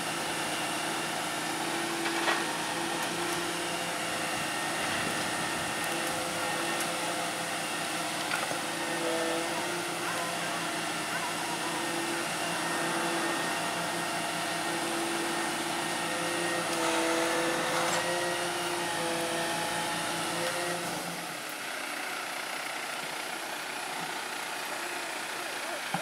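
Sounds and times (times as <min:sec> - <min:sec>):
hydraulic pump whine: 0:00.0 - 0:22.0
truck engine hum: 0:00.0 - 0:26.0.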